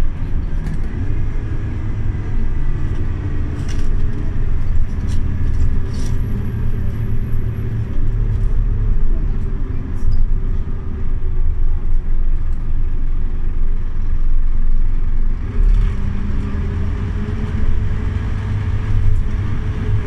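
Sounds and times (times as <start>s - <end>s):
bus engine rumble: 0.0s - 20.0s
drivetrain whine: 0.0s - 20.0s.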